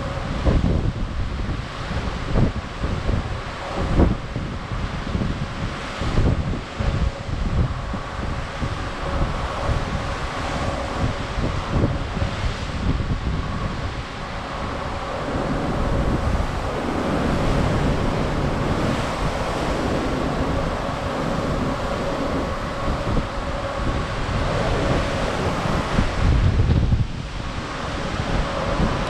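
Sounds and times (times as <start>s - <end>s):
sea water rushing along hull: 0.0s - 29.0s
wind buffeting microphone: 0.0s - 29.0s.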